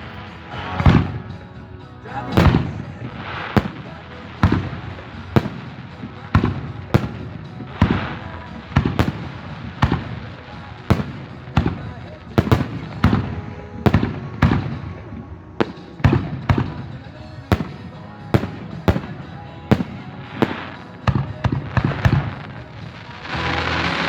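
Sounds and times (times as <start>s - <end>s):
fireworks bangs with echo: 0.0s - 24.0s.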